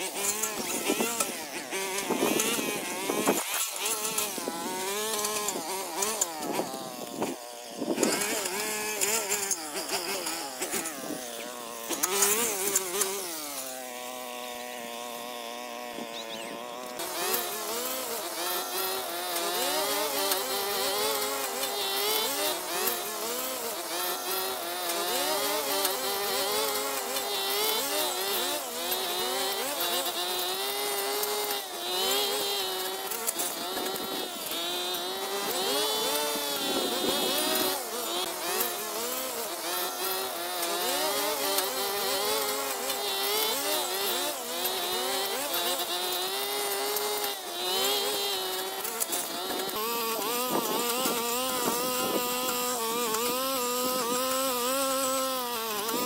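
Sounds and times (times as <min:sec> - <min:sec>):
small petrol engine revving: 0:00.0 - 0:56.0.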